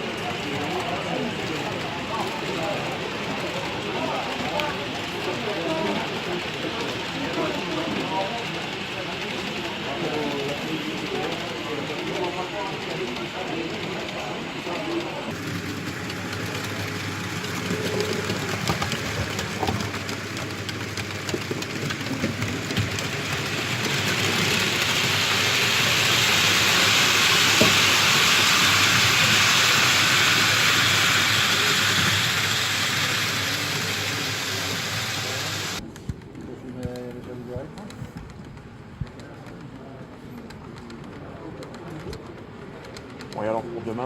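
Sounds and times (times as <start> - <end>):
model train running on track: 0.0 - 44.0.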